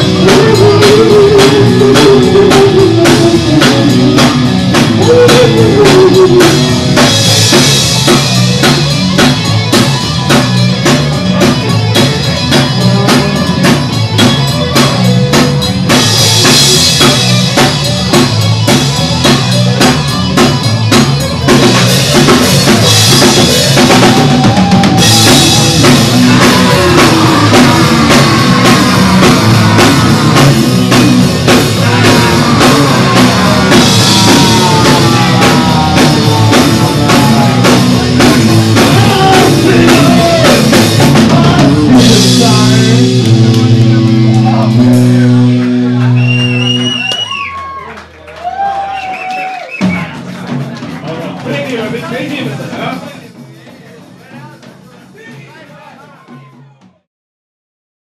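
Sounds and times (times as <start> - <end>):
distorted electric guitar: 0.0 - 47.8
punk rock band playing: 0.0 - 56.6
drum kit pounding: 0.0 - 57.0.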